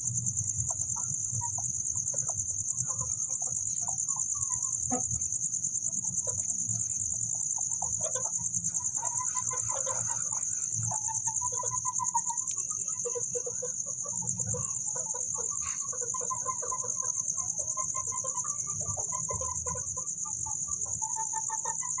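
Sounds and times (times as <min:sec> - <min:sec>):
high-pitched insect trill: 0:00.0 - 0:22.0
chickens clucking: 0:00.4 - 0:22.0.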